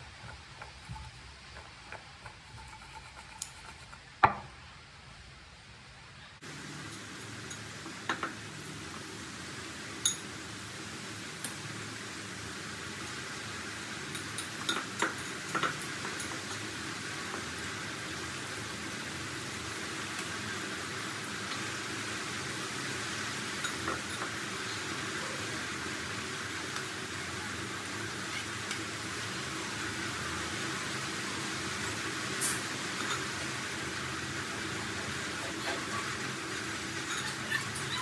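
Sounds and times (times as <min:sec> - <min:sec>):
potatoes sizzling in hot oil: 0:00.0 - 0:05.4, 0:06.4 - 0:38.0.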